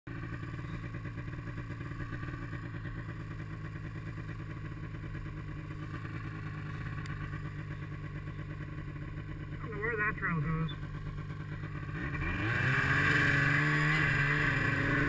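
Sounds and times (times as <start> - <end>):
snowmobile engine running: 0.1 - 15.0.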